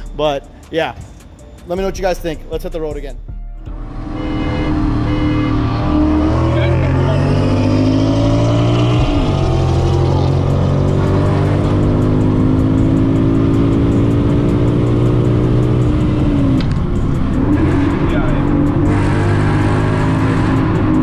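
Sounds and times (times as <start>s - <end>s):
loud car engine accelerating: 3.7s - 21.0s.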